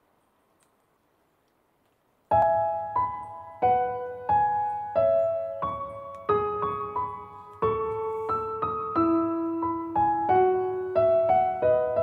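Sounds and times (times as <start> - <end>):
slow gentle piano music: 2.3 - 12.0.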